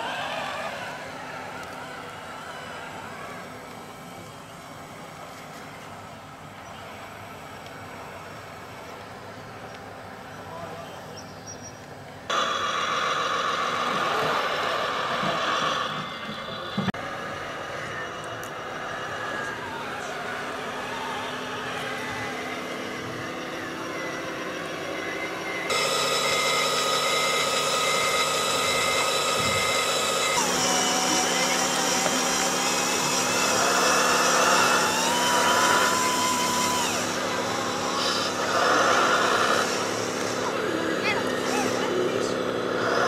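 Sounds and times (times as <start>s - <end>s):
electric hydraulic pump whine: 0.0s - 5.9s, 12.3s - 43.0s.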